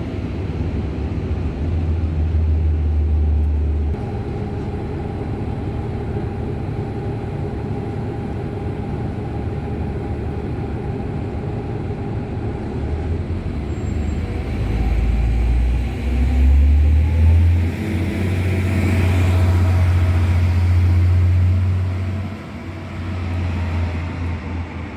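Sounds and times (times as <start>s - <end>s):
trains rumbling through station: 0.0s - 24.9s.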